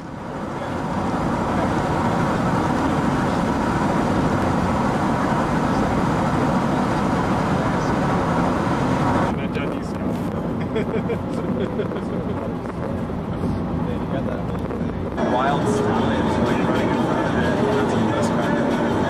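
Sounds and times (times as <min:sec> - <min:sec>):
road and engine noise in van: 0:00.0 - 0:19.0.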